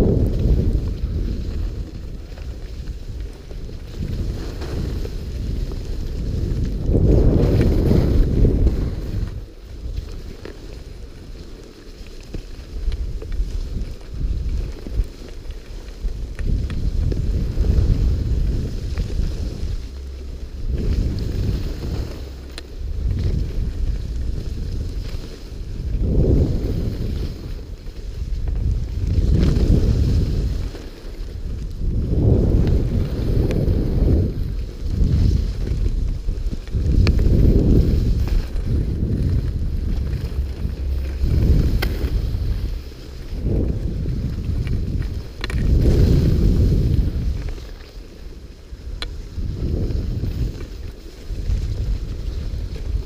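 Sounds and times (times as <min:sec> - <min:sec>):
wind buffeting microphone: 0:00.0 - 0:11.6, 0:12.2 - 0:53.0
skis sliding over snow: 0:00.0 - 0:53.0.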